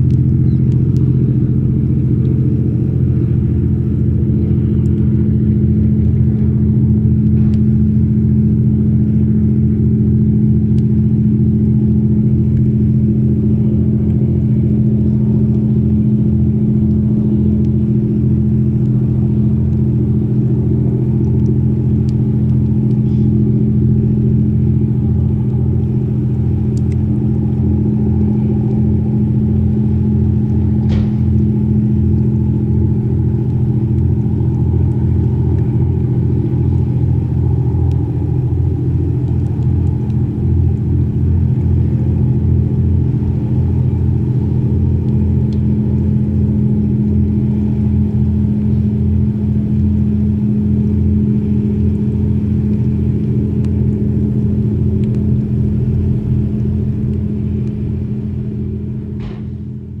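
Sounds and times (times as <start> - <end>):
ferry diesel engines droning: 0.0 - 60.0.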